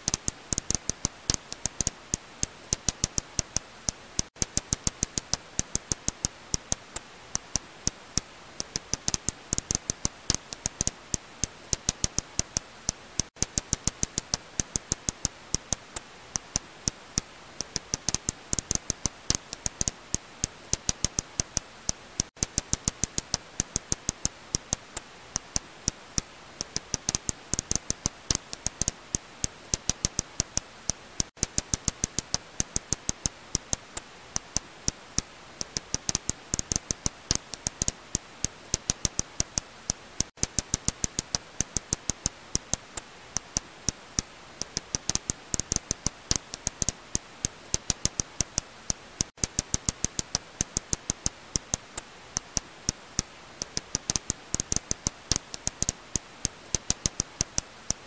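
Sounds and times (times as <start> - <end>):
steady hiss: 0.0 - 58.0
bat echolocation clicks: 0.1 - 58.0.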